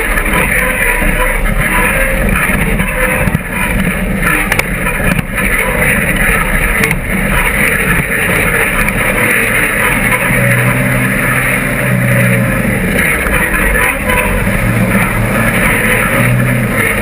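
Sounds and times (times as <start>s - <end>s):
off-road buggy engine running: 0.0s - 17.0s.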